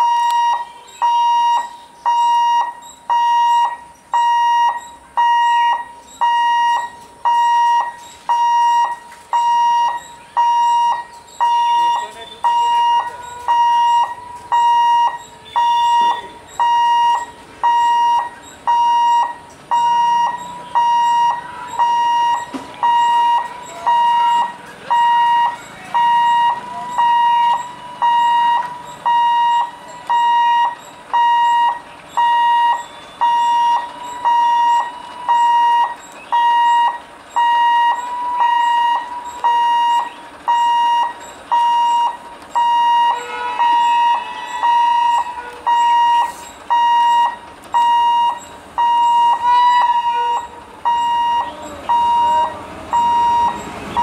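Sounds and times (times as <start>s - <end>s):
fainter second alarm tone: 0.0s - 54.0s
level crossing alarm beeping: 0.0s - 54.0s.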